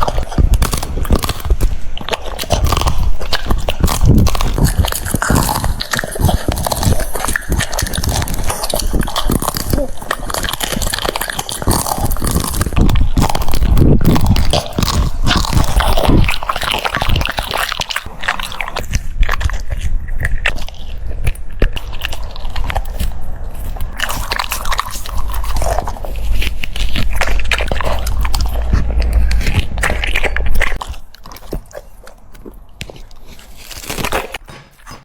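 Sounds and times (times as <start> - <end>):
dog chewing crunchy food: 0.0 - 35.0.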